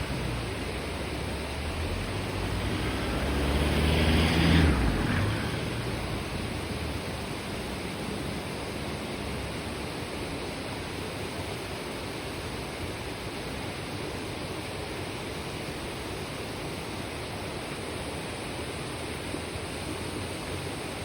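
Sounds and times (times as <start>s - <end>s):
stream murmuring over rocks: 0.0s - 21.0s.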